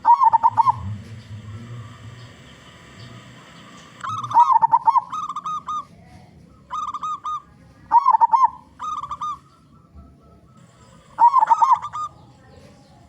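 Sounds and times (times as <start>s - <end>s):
dove cooing: 0.0s - 2.4s, 4.0s - 13.0s.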